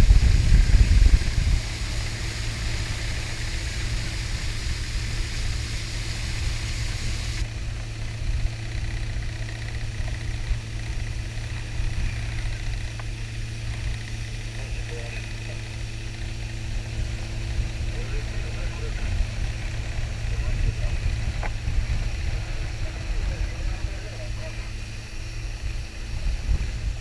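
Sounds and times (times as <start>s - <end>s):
rushing wind and spray: 0.0s - 14.6s, 15.2s - 27.0s
outboard motor running: 0.0s - 27.0s.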